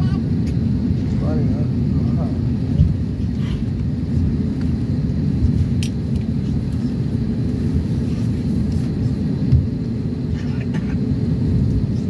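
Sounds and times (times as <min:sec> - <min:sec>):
aircraft wheels and engines rumbling: 0:00.0 - 0:12.0.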